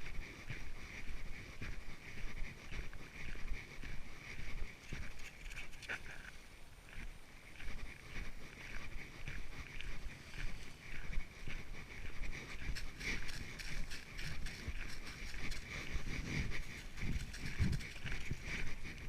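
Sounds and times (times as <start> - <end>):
dog panting: 0.0 - 6.3, 7.6 - 19.0
footsteps on trail: 0.0 - 19.0.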